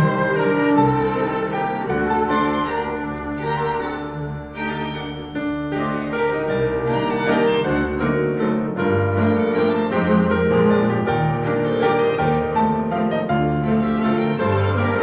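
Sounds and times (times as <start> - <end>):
classical music with strings and piano: 0.0 - 15.0.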